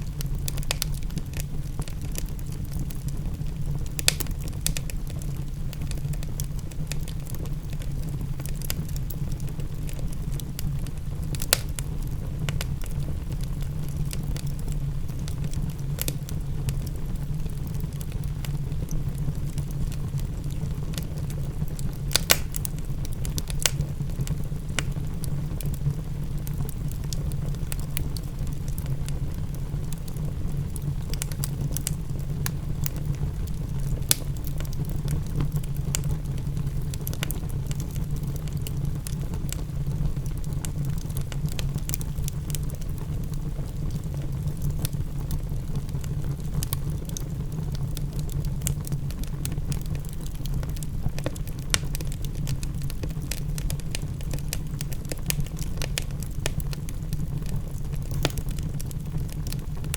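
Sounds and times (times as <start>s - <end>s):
low rumble of fire: 0.0s - 59.9s
wood fire crackling: 0.0s - 59.9s.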